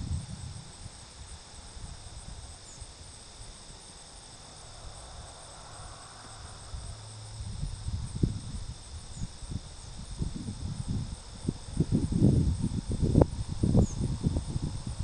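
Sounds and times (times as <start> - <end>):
crickets trilling: 0.0 - 15.0
wind rumble on microphone: 0.0 - 15.0.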